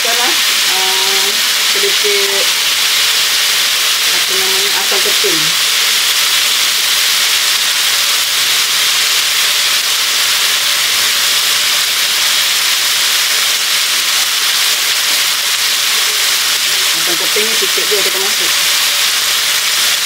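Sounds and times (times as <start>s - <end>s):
chilli paste sizzling in oil: 0.0s - 20.0s.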